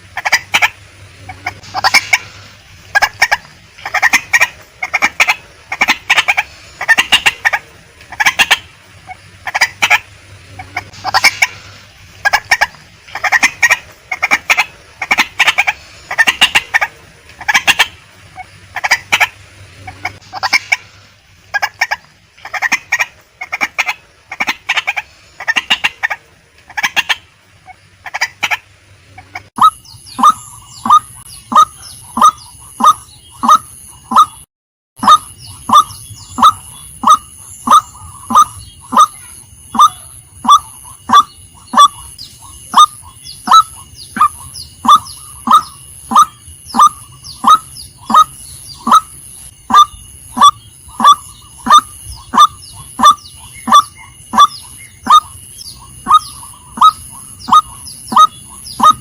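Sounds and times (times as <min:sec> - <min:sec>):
steady high-pitched tone: 0:00.0 - 0:59.0
waterhen calling: 0:00.0 - 0:59.0.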